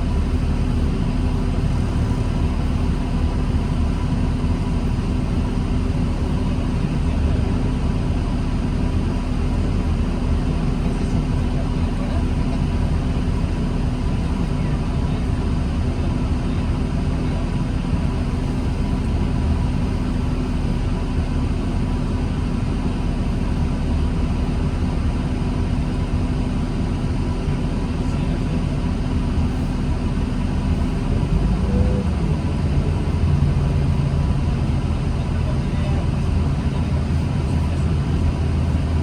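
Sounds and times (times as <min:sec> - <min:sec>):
diesel bus engine drone: 0:00.0 - 0:39.0.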